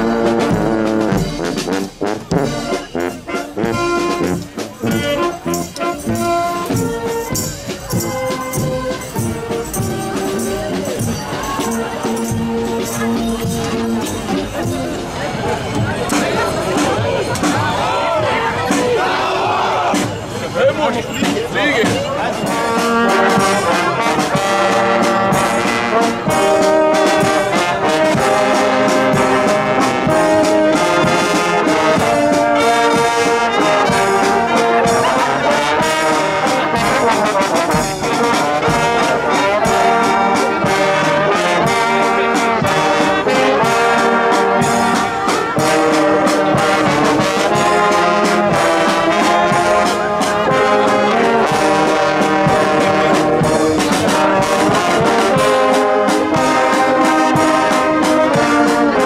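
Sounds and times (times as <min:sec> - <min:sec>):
drum beat: 0:00.0 - 0:20.4, 0:21.2 - 0:59.0
brass band playing: 0:00.0 - 0:59.0.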